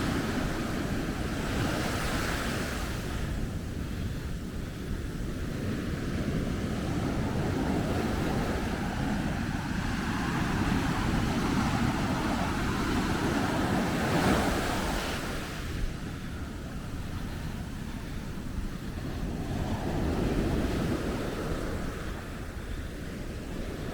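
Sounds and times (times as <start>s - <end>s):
ocean waves breaking on beach: 0.0s - 23.9s
wind rumbling on microphone: 0.0s - 23.9s.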